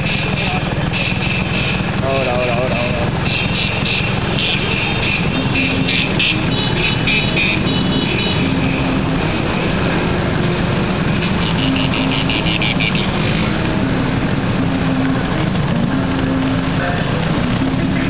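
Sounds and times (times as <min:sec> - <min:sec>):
scooter engines running: 0:00.0 - 0:18.0.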